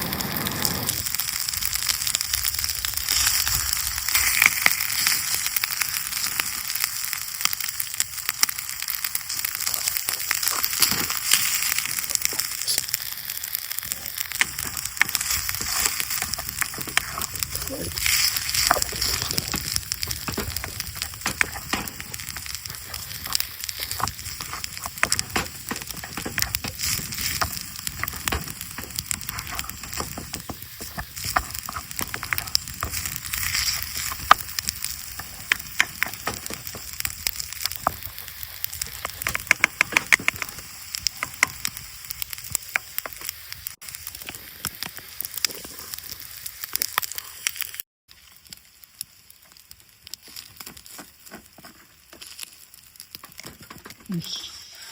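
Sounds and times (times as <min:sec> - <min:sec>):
campfire crackling and popping: 0:00.0 - 0:54.9
sizzling hiss: 0:00.0 - 0:54.9.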